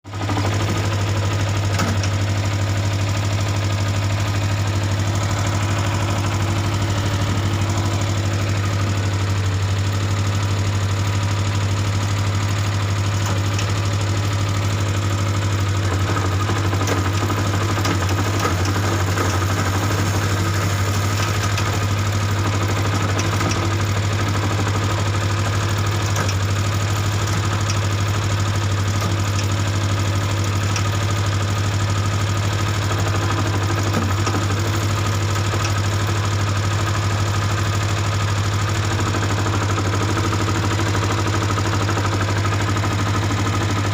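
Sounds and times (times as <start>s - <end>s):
engine knock: 0.1s - 43.9s
motorcycle engine idling: 0.1s - 43.9s.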